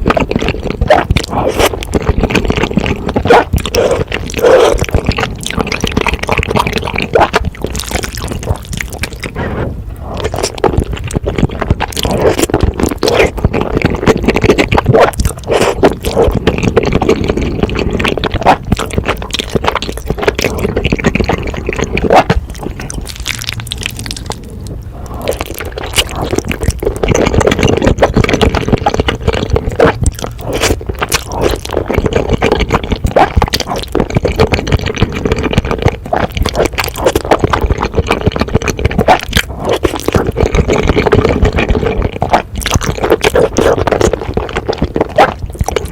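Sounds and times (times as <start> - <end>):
wet chewing and slurping: 0.0 - 45.9.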